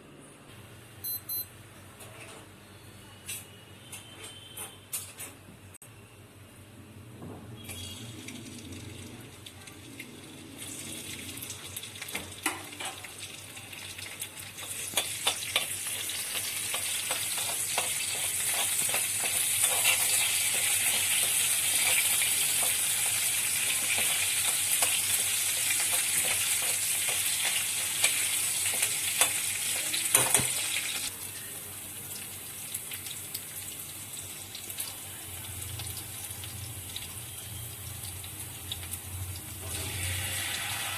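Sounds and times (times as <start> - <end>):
food sizzling in hot oil: 7.7 - 40.9.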